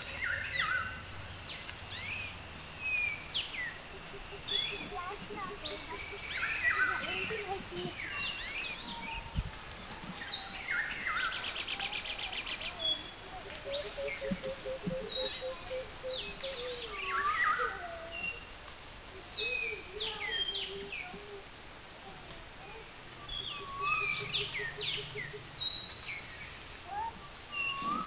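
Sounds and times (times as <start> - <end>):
birds chirping and calling: 0.0 - 21.6, 22.6 - 28.0.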